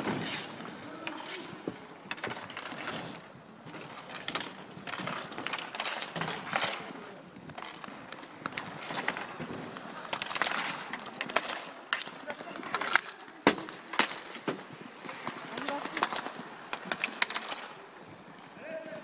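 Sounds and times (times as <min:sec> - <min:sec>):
hockey sticks clacking: 0:00.0 - 0:19.0
skate wheels rolling and scraping: 0:00.0 - 0:19.0.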